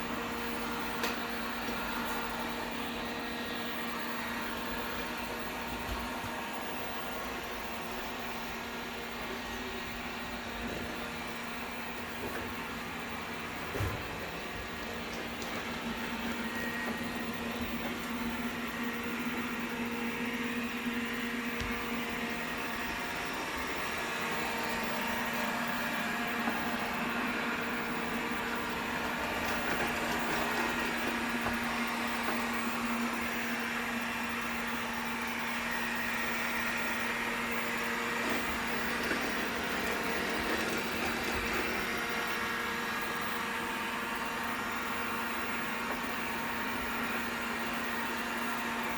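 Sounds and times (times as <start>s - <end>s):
vacuum cleaner humming: 0.0s - 48.9s.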